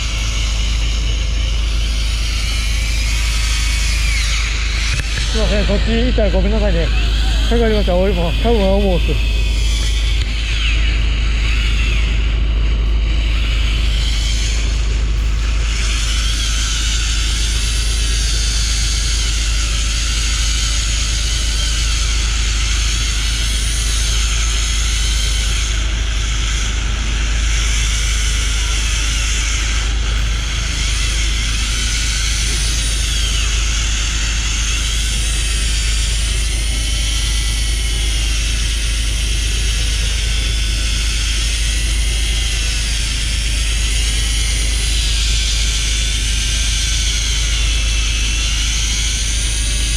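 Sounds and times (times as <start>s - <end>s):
boat engine drone: 0.0s - 49.9s
faint wavering whine: 0.0s - 49.9s
wind: 0.0s - 49.9s.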